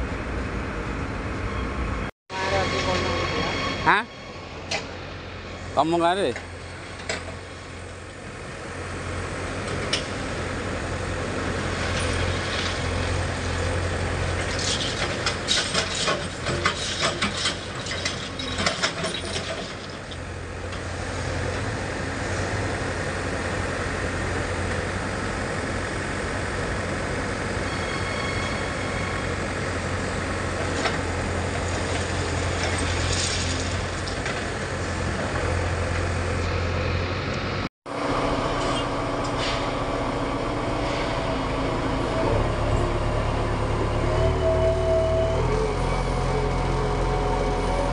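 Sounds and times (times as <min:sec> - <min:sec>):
diesel engine running: 0:04.6 - 0:27.9, 0:28.8 - 0:47.9.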